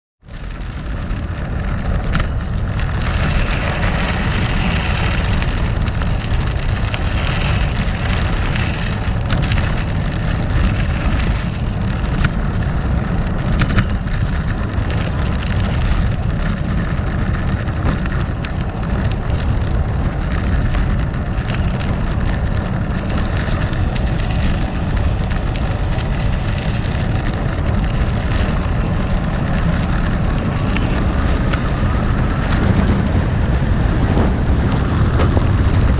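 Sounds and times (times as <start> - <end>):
wind rumble on microphone: 0.2 - 35.9
tyres crunching on gravel: 0.3 - 35.9.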